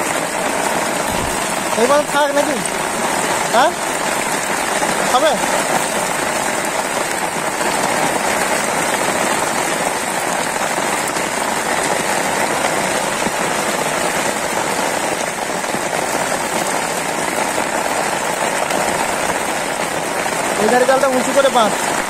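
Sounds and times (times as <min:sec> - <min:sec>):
rain splashing on water: 0:00.0 - 0:22.0.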